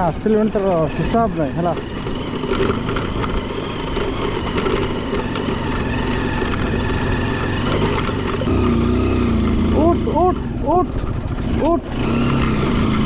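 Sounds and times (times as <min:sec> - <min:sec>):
bike rattling over ruts: 0:00.0 - 0:13.0
motorcycle engine running: 0:00.0 - 0:13.0.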